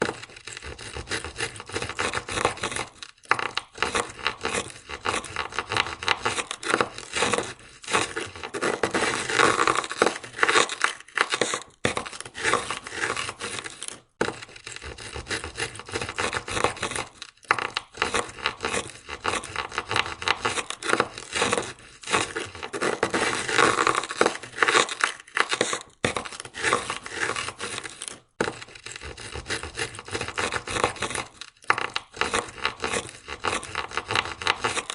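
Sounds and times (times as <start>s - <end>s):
ice scraper scraping car window: 0.0s - 34.9s.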